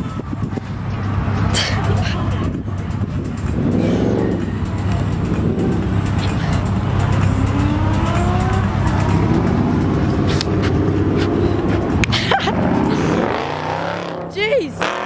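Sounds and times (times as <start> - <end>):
car engine accelerating: 0.3 - 15.0.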